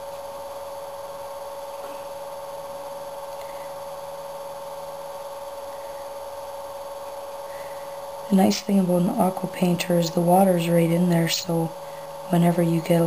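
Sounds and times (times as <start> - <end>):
electrical hum: 0.0 - 13.0
two-tone whine: 0.0 - 13.0.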